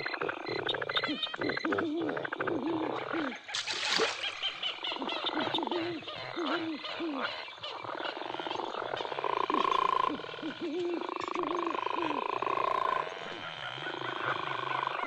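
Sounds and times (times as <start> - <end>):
frogs croaking: 0.0 - 15.0.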